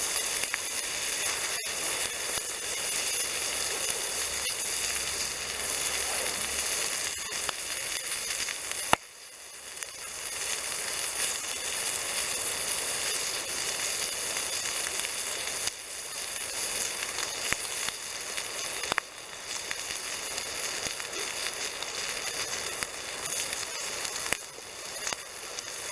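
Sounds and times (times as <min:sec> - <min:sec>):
bacon sizzling in a frying pan: 0:00.0 - 0:25.9
sharp crackles: 0:00.0 - 0:25.9.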